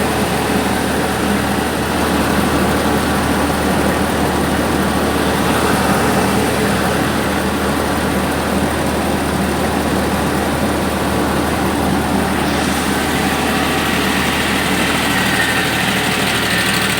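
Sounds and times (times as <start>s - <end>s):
milling machinery noise: 0.0s - 16.9s
tractor engine drone: 0.0s - 16.9s.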